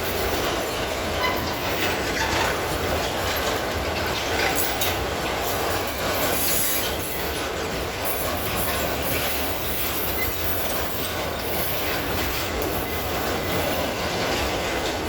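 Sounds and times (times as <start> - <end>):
freight train rumbling past: 0.0 - 15.0
wheels clattering over rail joints: 0.0 - 15.0.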